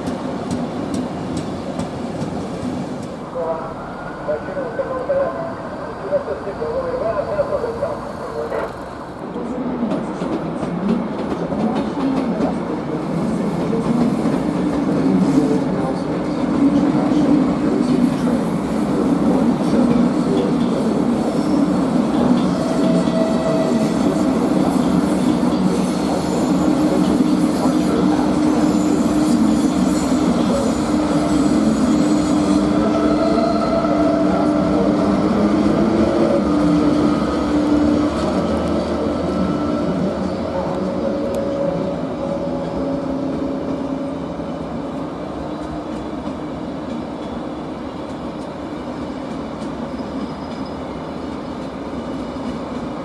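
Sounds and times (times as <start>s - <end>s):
train low hum: 0.0s - 53.0s.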